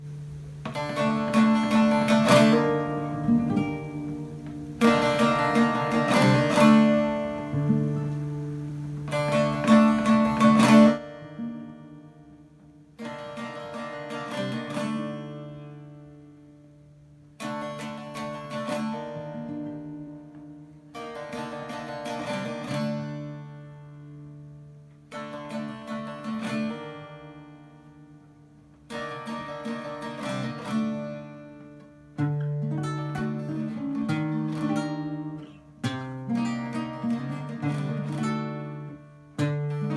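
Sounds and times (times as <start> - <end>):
plucked string instrumental music: 0.0 - 39.9.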